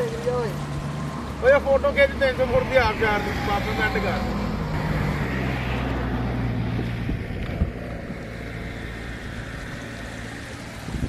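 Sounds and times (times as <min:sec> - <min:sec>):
vehicle engine humming: 0:00.0 - 0:11.0
steady rushing noise: 0:00.2 - 0:11.0.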